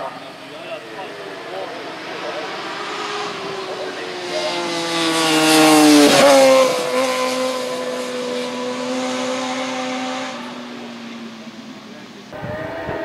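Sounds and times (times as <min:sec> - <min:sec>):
motorcycle engine racing past: 0:00.0 - 0:13.0.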